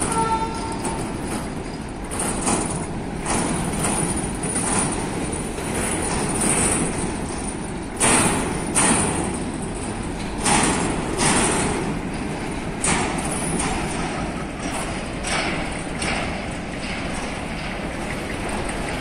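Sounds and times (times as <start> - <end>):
freight wagons rumbling past: 0.0 - 19.0
wheels clacking over rail joints: 0.0 - 19.0.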